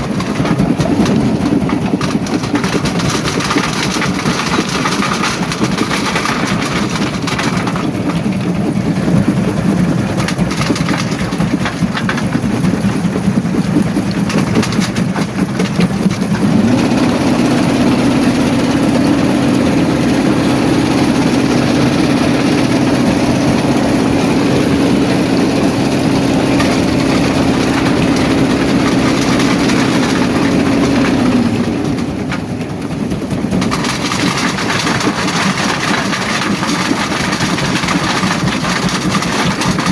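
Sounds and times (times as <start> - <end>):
heavy diesel engine: 0.0 - 39.9
rock being crushed: 0.0 - 39.9.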